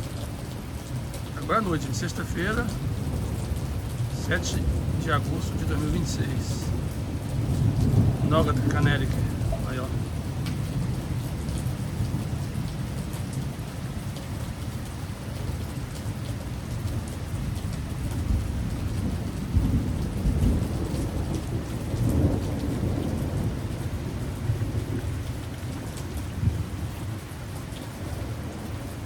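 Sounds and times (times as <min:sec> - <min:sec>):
heavy rain falling: 0:00.0 - 0:29.0
low rolling thunder: 0:01.3 - 0:14.2, 0:16.7 - 0:29.0.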